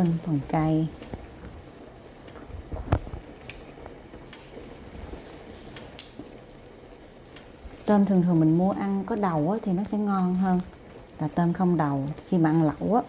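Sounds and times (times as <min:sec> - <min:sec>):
broth bubbling at a boil: 0:00.0 - 0:13.0.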